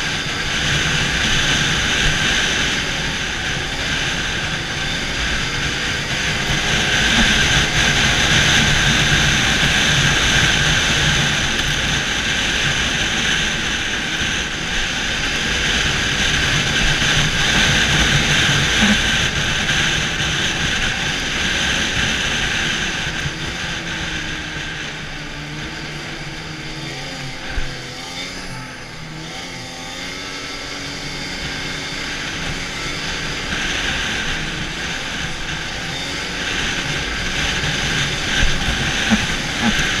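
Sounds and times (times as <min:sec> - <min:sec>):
snowmobile engine and track: 0:00.0 - 0:40.0.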